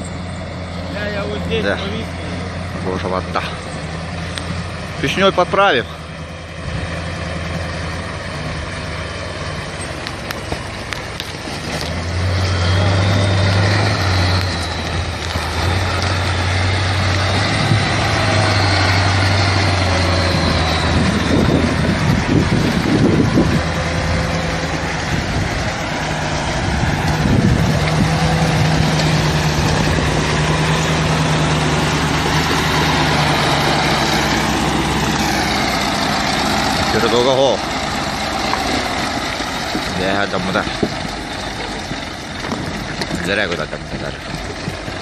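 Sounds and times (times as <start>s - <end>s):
truck diesel engine under load: 0.0s - 45.0s.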